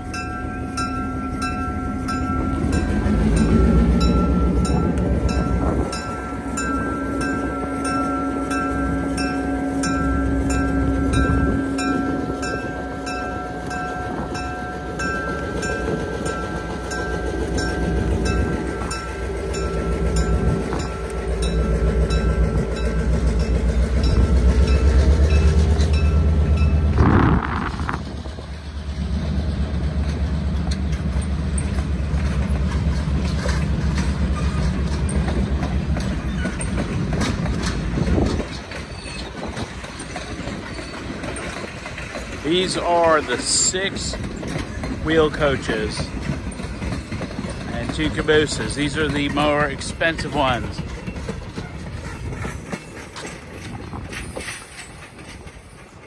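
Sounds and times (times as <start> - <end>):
diesel locomotive engine rumble: 0.0 - 56.0
wheels clicking over rail joints: 0.0 - 56.0.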